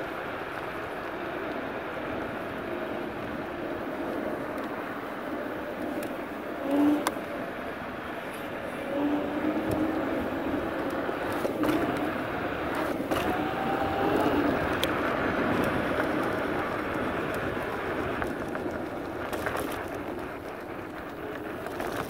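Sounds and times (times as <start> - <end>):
road vehicle rushing: 0.0 - 22.0.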